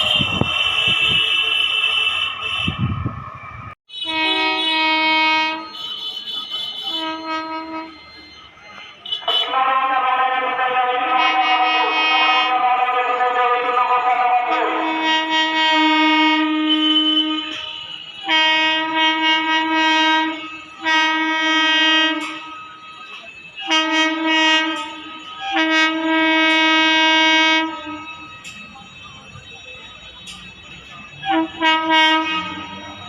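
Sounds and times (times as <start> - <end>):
locomotive horn blasts: 0.0 - 3.1, 3.9 - 8.3, 9.0 - 22.9, 23.6 - 28.4, 31.2 - 33.0.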